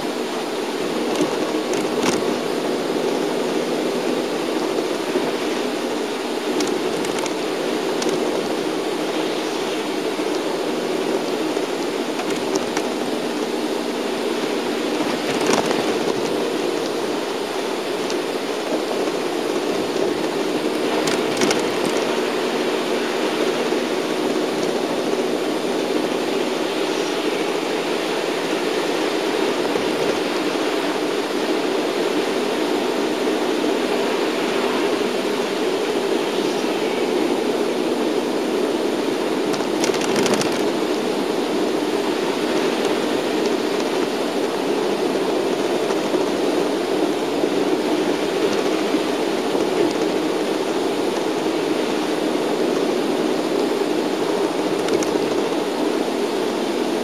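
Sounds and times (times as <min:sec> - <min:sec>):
bus engine drone: 0:00.0 - 0:57.0
tyres on wet road: 0:00.0 - 0:57.0.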